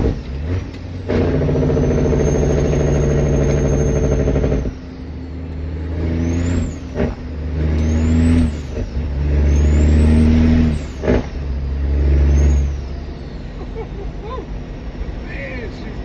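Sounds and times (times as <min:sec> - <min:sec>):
diesel truck engine accelerating: 0:00.0 - 0:16.0.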